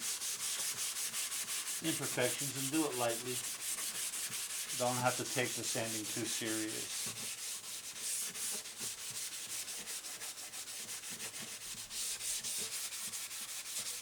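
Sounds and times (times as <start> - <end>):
hand sanding wood: 0.0 - 14.0.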